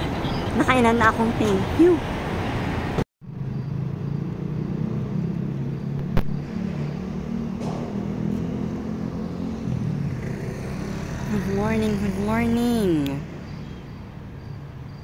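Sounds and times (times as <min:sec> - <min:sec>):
traffic engines humming: 0:00.0 - 0:15.0.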